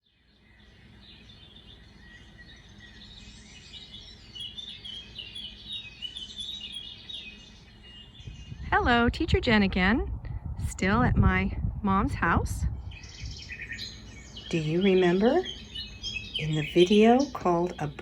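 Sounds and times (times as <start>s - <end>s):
birds chirping: 0.0s - 10.0s, 10.7s - 18.0s
low outdoor hum: 0.2s - 18.0s.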